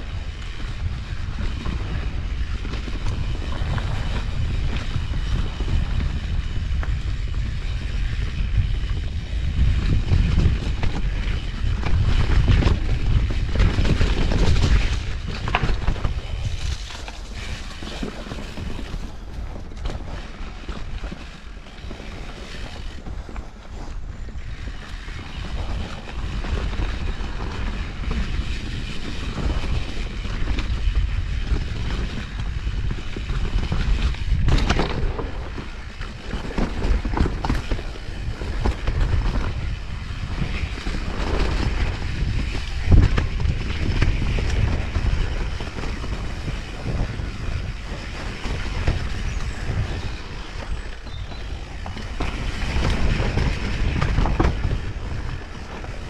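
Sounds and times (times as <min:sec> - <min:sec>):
bike tyres rolling on dirt: 0:00.0 - 0:56.0
wind buffeting microphone: 0:00.0 - 0:56.0
bike knocks and rattles: 0:00.1 - 0:56.0.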